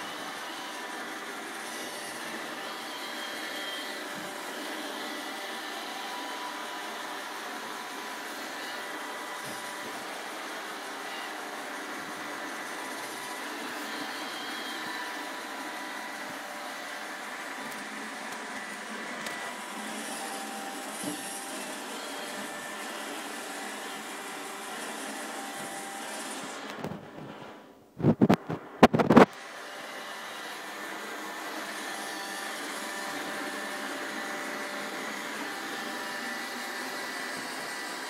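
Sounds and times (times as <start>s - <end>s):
robot vacuum running: 0.0s - 27.4s, 28.0s - 38.0s.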